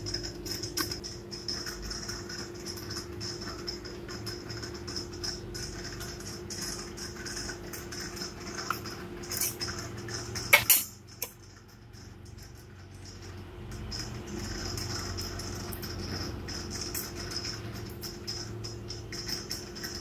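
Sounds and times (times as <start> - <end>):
aquarium equipment hum and hiss: 0.0 - 20.0.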